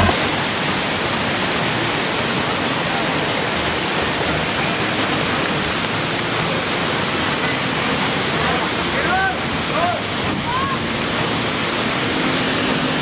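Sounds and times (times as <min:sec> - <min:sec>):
waterfall and river rushing: 0:00.0 - 0:13.0.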